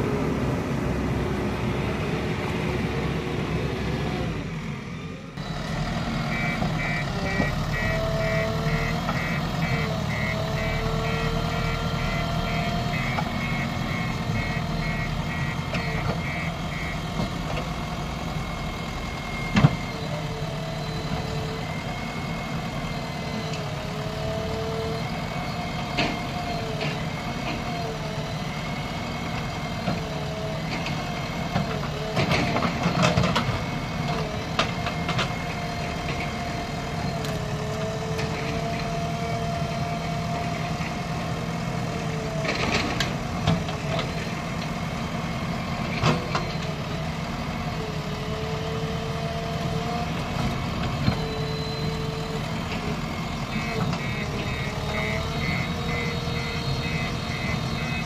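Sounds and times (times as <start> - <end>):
diesel engine running: 0.0 - 58.0
engine whine: 0.0 - 58.0.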